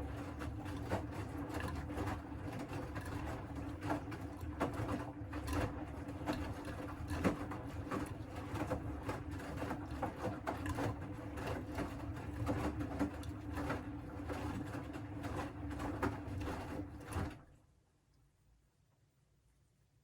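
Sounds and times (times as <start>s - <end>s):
washing machine motor hum: 0.0s - 17.6s.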